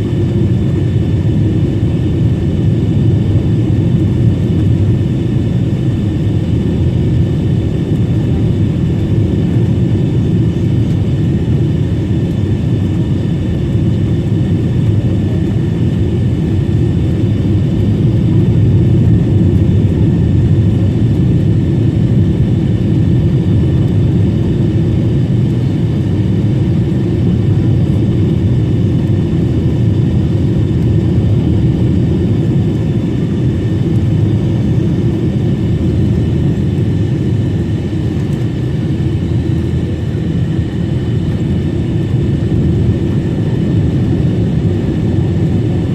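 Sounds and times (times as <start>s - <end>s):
jet engine and airflow rumble: 0.0s - 45.9s.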